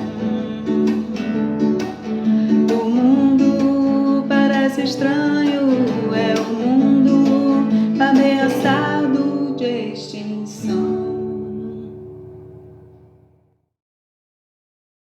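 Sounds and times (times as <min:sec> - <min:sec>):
woman singing: 0:00.0 - 0:12.4
acoustic guitar strumming: 0:00.0 - 0:13.5.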